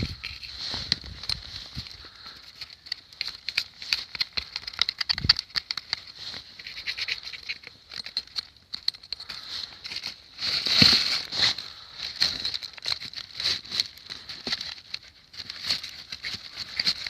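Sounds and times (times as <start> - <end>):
scraping clicks and light knocks: 0.0 - 17.0.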